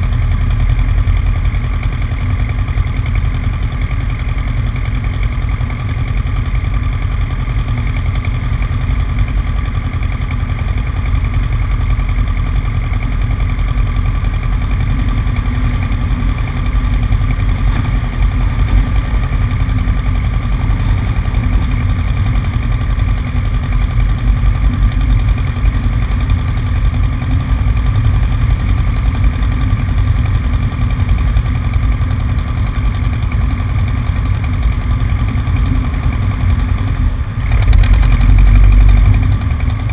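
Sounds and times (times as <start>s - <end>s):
airplane engine and propeller: 0.0s - 39.9s.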